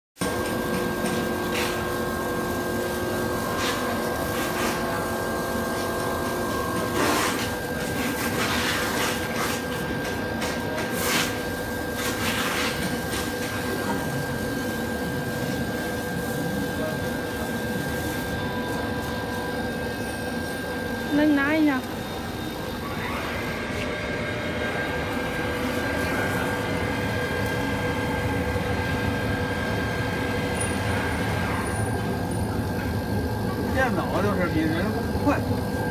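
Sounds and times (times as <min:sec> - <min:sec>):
laser cutter humming: 0:00.2 - 0:35.9.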